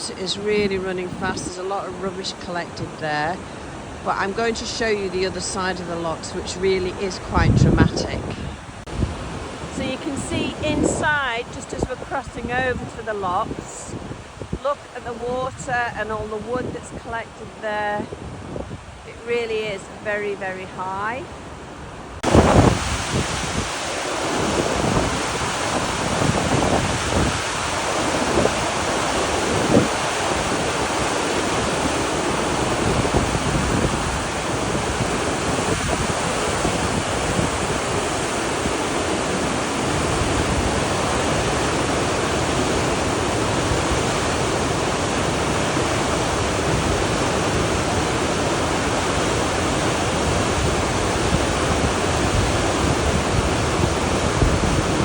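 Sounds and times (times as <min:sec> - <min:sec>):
floodwater rushing: 0:00.0 - 0:55.0
wind buffeting microphone: 0:00.0 - 0:55.0.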